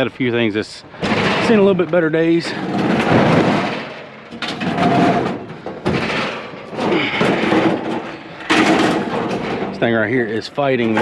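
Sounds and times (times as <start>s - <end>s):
scrap scraping and rattling: 1.0s - 11.0s.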